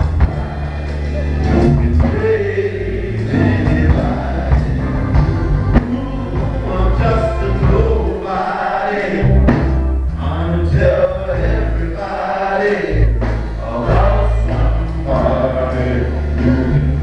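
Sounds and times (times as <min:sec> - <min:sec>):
sharp beats: 0:00.0 - 0:16.6
heavy bass: 0:00.0 - 0:17.0
men's choir singing gospel: 0:00.0 - 0:17.0.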